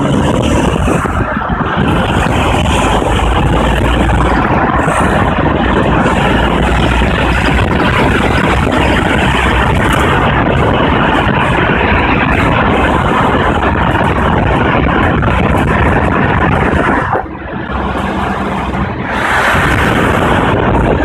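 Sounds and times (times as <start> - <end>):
turbo engine running hard: 0.0 - 21.0.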